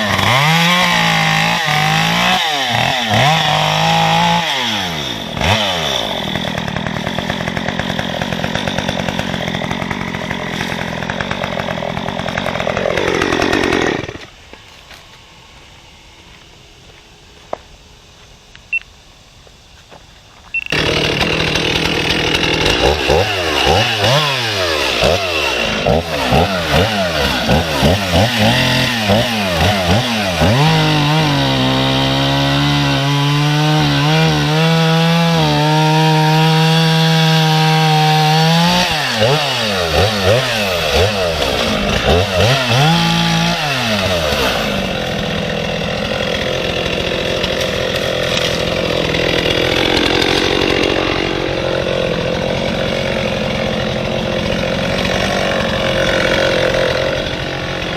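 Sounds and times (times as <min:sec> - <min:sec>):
chainsaw cutting log: 0:00.0 - 0:14.7, 0:20.6 - 0:57.9.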